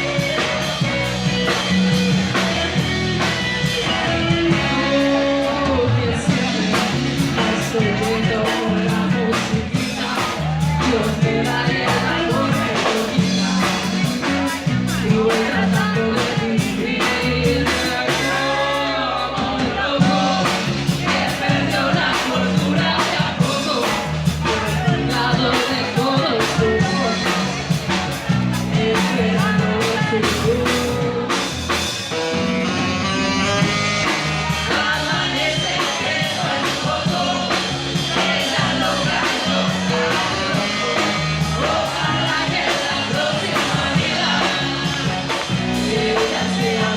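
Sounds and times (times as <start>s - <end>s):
person singing: 0.0s - 31.9s, 33.5s - 46.9s
rock band playing live: 0.0s - 46.9s.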